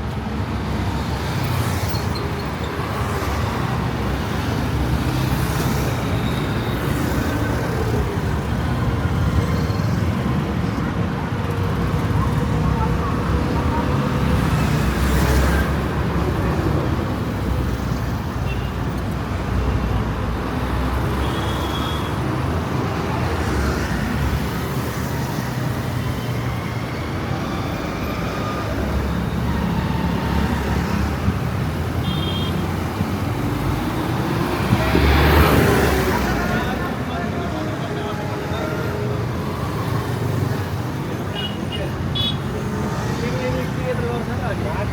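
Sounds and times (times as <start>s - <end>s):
passing vehicle engines: 0.0s - 44.9s.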